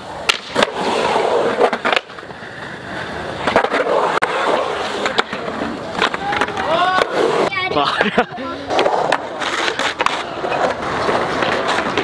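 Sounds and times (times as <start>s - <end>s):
skateboard wheels rolling on concrete: 0.0s - 12.0s
skateboard clacking on concrete: 0.1s - 7.8s, 8.4s - 12.0s.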